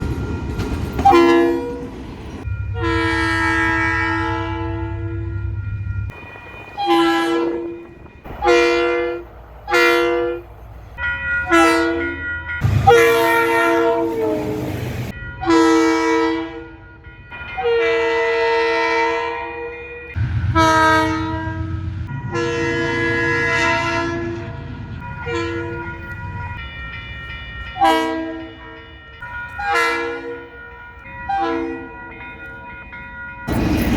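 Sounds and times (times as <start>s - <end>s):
diesel locomotive horns: 0.0s - 26.4s, 27.6s - 28.9s, 29.5s - 32.2s
locomotive engine rumbling: 0.0s - 33.9s.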